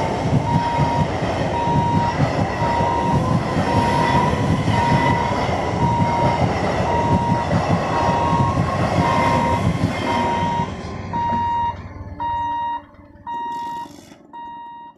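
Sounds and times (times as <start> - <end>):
train coaches rumbling: 0.0 - 14.5
level crossing alarm beeping: 0.4 - 14.9.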